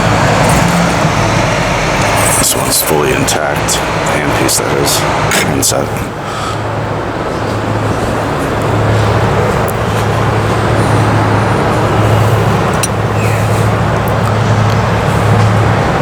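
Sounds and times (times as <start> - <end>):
rumble of passing vehicles: 0.0 - 16.0.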